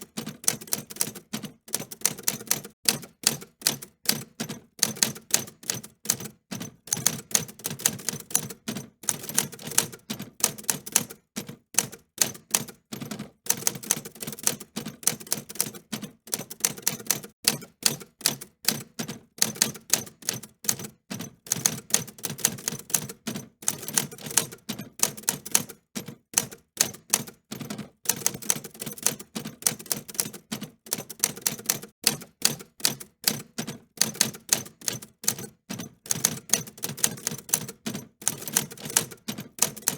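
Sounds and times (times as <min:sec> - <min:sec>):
typewriter keys clicking: 0:00.0 - 0:11.2, 0:11.8 - 0:39.9.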